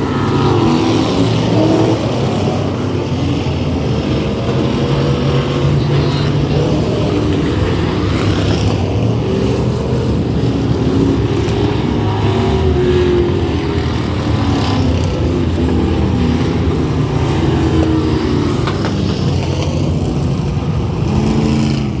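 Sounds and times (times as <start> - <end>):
race car engines running: 0.0 - 22.0.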